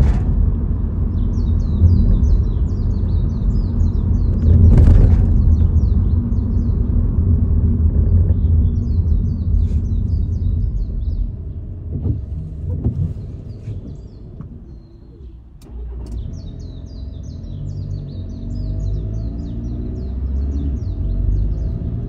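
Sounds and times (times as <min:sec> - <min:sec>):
car driving rumble from inside: 0:00.0 - 0:22.0
birds chirping: 0:01.0 - 0:22.0.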